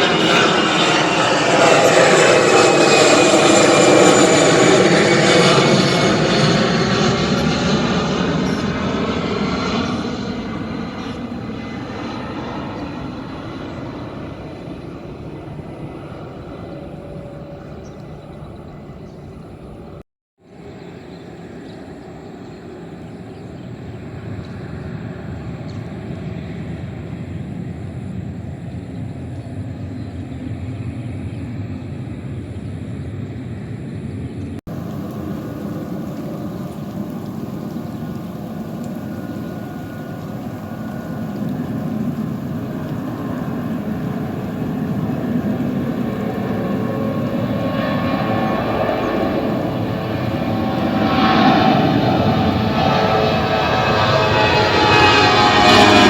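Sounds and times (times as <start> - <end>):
airliner engines running: 0.0 - 56.0.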